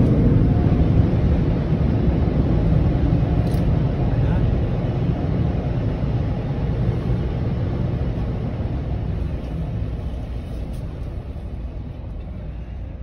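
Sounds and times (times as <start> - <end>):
low rumble inside a car: 0.0 - 13.0.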